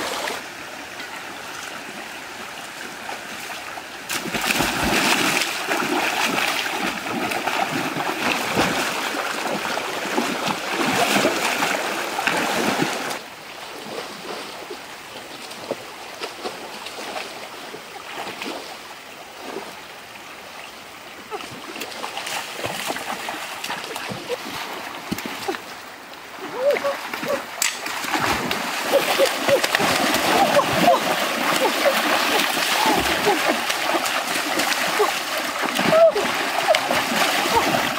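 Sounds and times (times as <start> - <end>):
splashing in shallow water: 0.0 - 18.8, 21.2 - 37.9
stream running: 0.0 - 37.9.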